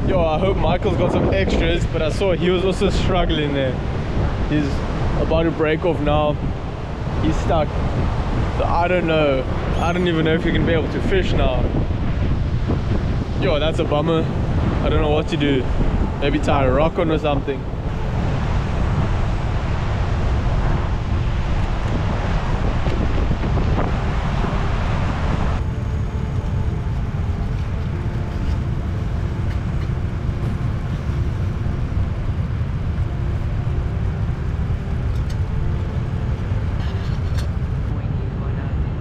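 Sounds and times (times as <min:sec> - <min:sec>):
surf on rocky shore: 0:00.0 - 0:37.9
wind buffeting microphone: 0:00.0 - 0:39.0.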